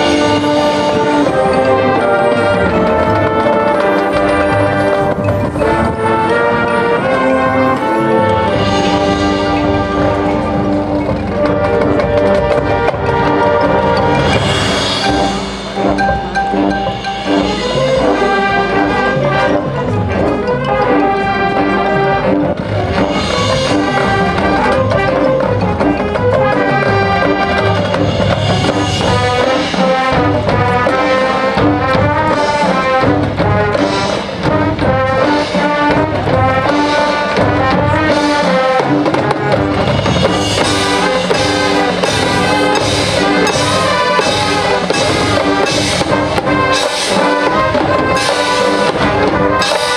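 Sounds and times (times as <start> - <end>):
brass sustained chords: 0.0 - 49.9
marching percussion: 0.0 - 49.9.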